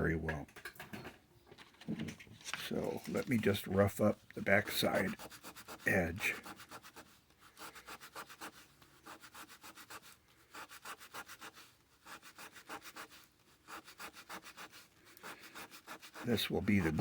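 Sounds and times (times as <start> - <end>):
abrasive scratchy rubbing: 2.6 - 17.0.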